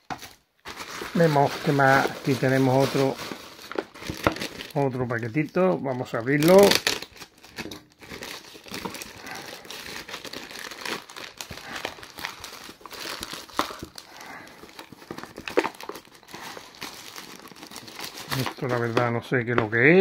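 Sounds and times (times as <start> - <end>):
plastic mailer bag crinkling: 0.0 - 19.7.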